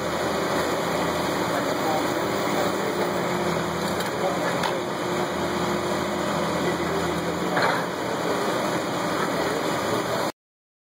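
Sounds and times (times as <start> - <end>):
excavator diesel engine running: 0.0 - 10.3.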